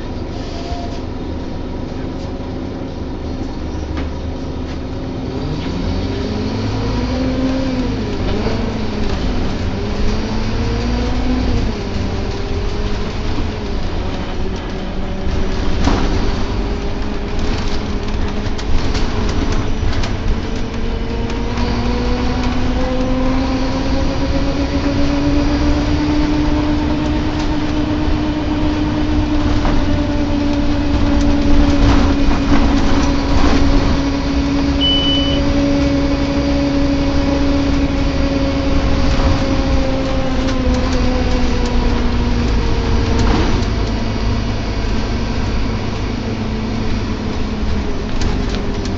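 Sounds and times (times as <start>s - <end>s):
bus engine groaning: 0.0s - 48.9s
bus rattles: 0.0s - 48.9s.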